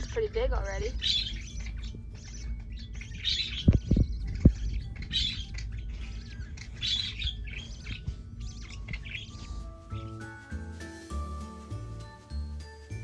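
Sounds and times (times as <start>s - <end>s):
low thumps: 0.0s - 12.0s
budgerigars chirping: 0.0s - 12.3s.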